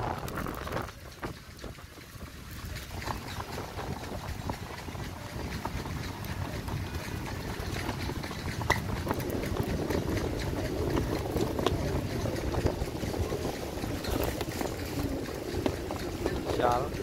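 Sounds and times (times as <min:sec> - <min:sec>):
pigeon wings fluttering: 0:00.0 - 0:07.3, 0:08.6 - 0:17.0
wind rumble on microphone: 0:00.0 - 0:17.0.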